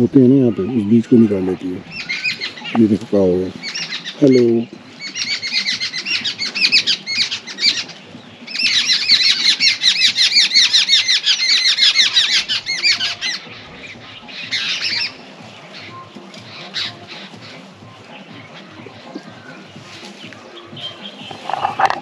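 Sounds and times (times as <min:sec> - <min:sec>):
birds chattering: 0:00.0 - 0:22.0.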